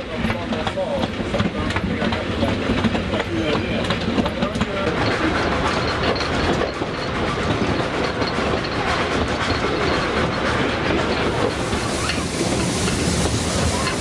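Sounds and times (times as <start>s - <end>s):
train coaches rumbling: 0.0s - 14.0s
wheels clicking over rail joints: 0.0s - 14.0s.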